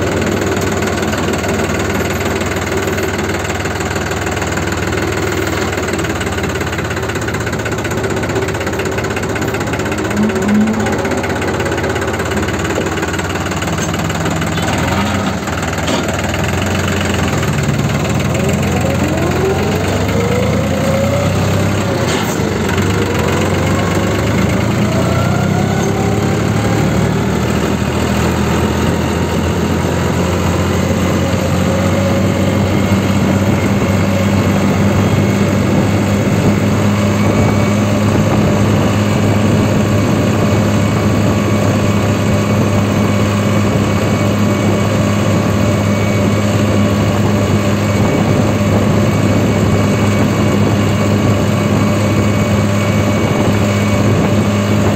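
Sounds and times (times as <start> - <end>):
tractor diesel engine: 0.0 - 54.9.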